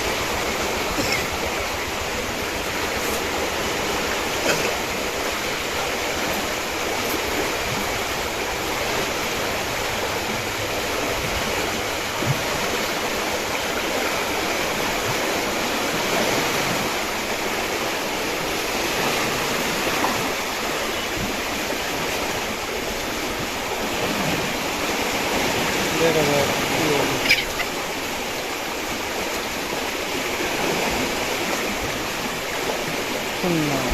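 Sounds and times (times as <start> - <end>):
water rushing through sluice gate: 0.0 - 33.9.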